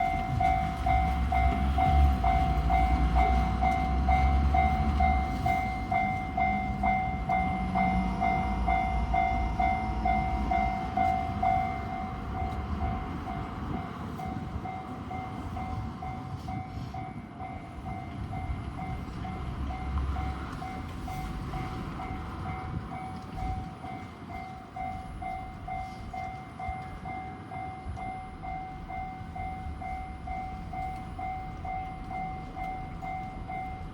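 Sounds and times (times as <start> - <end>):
train rumbling: 0.0 - 33.9
two-tone crossing bell: 0.0 - 33.9.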